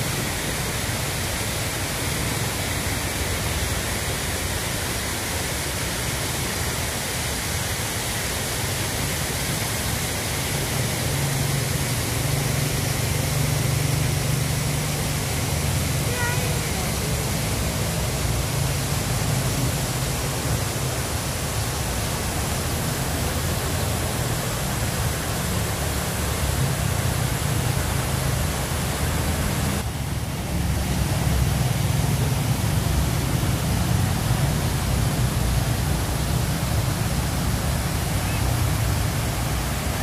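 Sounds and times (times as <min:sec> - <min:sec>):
water rushing over weir: 0:00.0 - 0:40.0.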